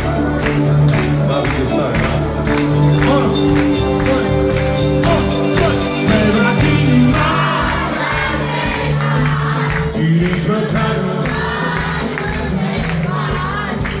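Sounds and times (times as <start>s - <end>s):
drums beat: 0.0s - 14.0s
guitar chords: 0.0s - 14.0s
keyboard chords: 0.0s - 14.0s
person singing: 0.0s - 14.0s.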